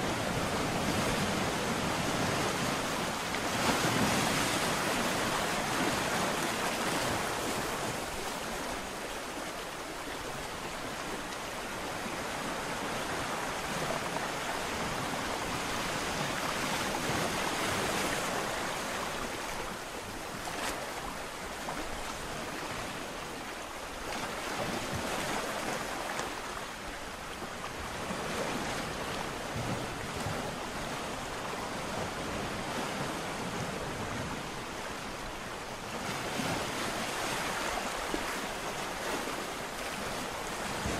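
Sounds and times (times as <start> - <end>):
waves breaking: 0.0 - 40.9.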